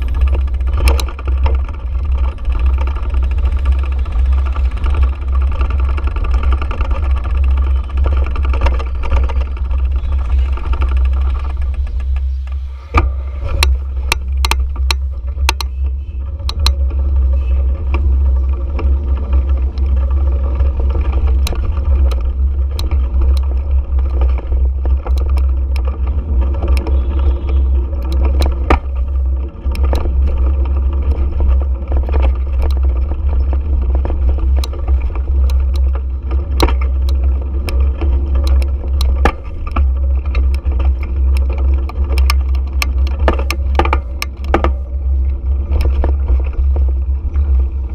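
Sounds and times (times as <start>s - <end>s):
sharp clicks and rattles: 0.0s - 47.9s
vehicle rumble: 0.0s - 47.9s.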